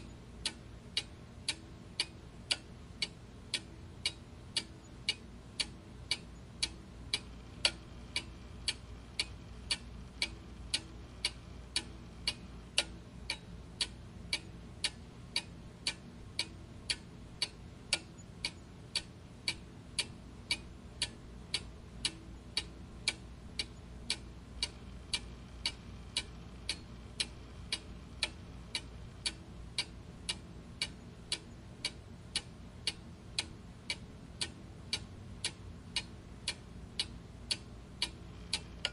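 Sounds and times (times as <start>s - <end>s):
clock ticking: 0.0s - 38.9s
faint low hum: 0.0s - 38.9s.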